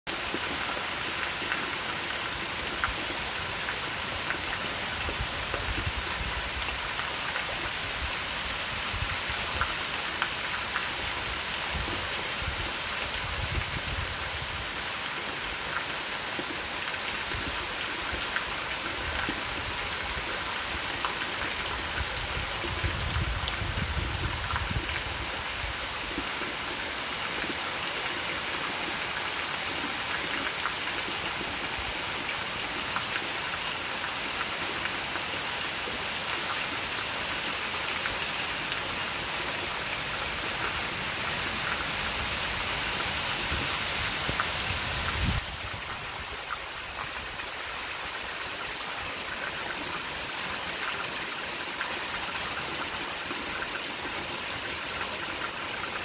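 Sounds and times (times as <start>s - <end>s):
heavy rain on concrete: 0.1s - 56.0s.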